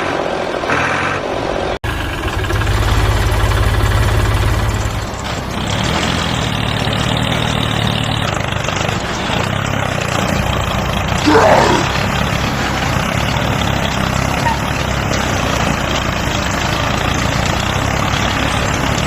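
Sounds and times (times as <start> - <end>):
small tractor motor running: 1.9 - 19.0.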